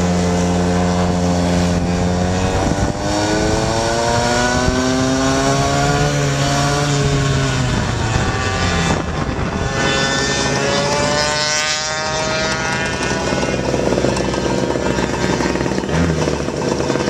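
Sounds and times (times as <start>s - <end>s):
small two-stroke engine buzzing: 0.0s - 17.0s.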